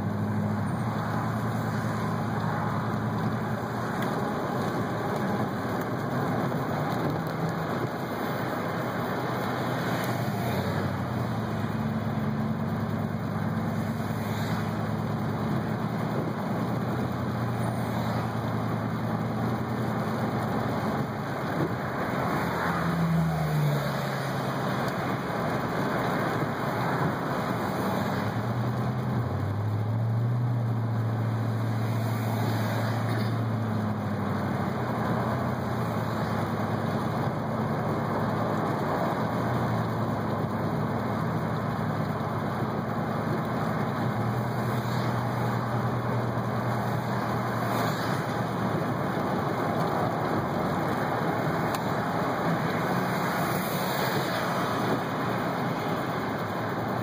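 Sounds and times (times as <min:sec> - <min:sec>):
engine hum: 0:00.0 - 0:57.0
tyres hissing on wet road: 0:00.0 - 0:57.0.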